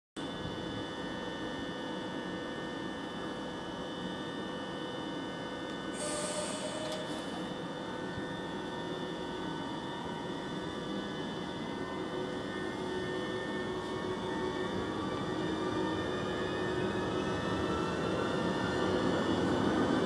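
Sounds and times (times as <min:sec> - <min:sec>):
electric train humming: 0:00.3 - 0:20.0.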